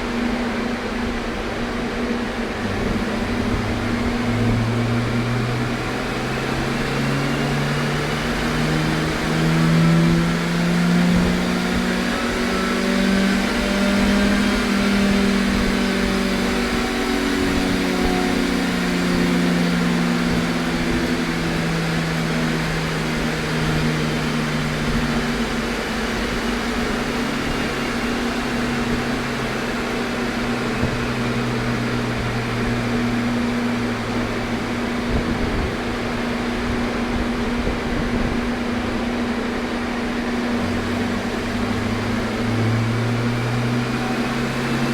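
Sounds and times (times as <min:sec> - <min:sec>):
steady mechanical drone: 0:00.0 - 0:44.9
car engine revs falling: 0:02.5 - 0:44.9.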